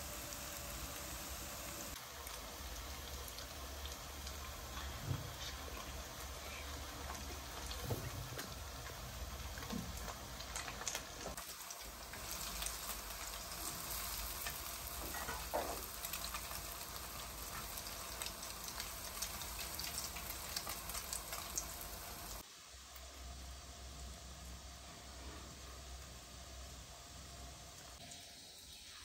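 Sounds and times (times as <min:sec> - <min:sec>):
patties sizzling in hot oil: 0:00.0 - 0:29.0.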